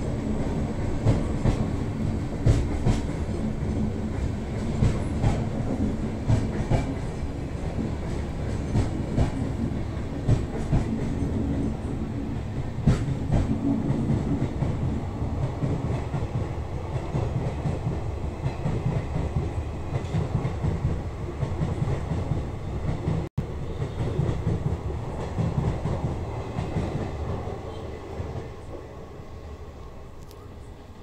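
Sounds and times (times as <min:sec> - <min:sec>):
train passing on tracks: 0:00.0 - 0:31.0.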